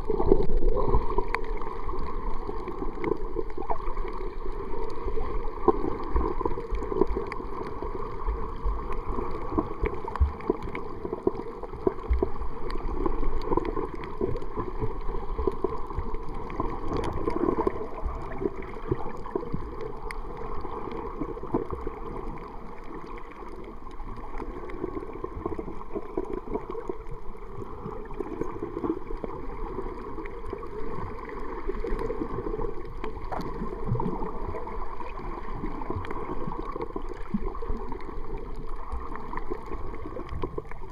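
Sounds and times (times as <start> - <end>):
underwater water noise: 0.0 - 40.9.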